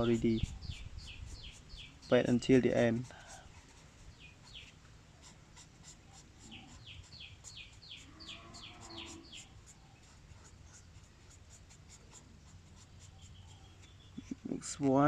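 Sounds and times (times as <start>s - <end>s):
highlighter squeaking on paper: 0.0s - 14.4s.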